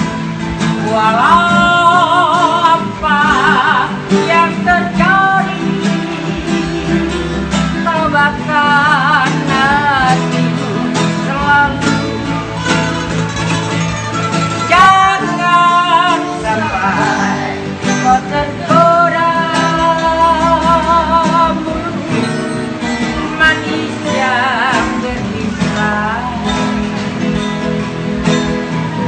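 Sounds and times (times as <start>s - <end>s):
acoustic guitars strumming: 0.0s - 29.0s
elderly man singing: 0.6s - 10.5s, 11.2s - 12.6s, 14.6s - 27.4s.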